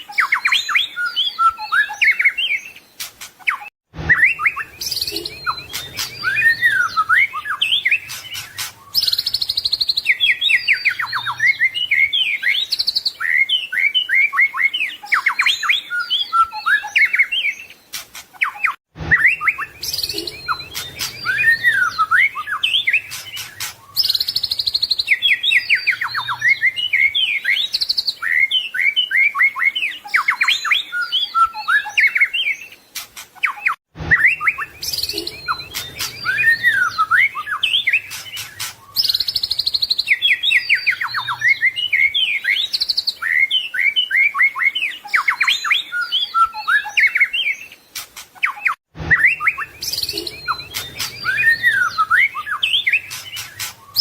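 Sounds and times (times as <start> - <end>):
songbird singing whistles and trills: 0.0 - 54.0.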